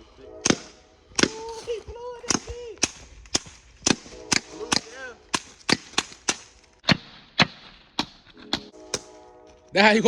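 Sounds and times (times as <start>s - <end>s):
gunshots: 0.4s - 1.6s, 2.2s - 9.1s.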